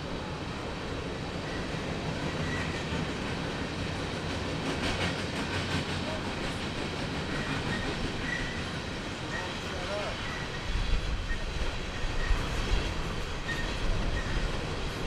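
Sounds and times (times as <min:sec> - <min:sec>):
train rumbling along track: 0:00.0 - 0:15.0
train wheel clacks: 0:01.5 - 0:15.0.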